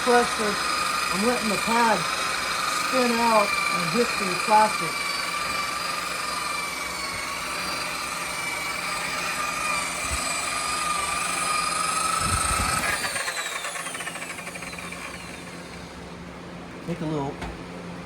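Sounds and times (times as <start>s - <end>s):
electric buffer whining: 0.0s - 18.0s.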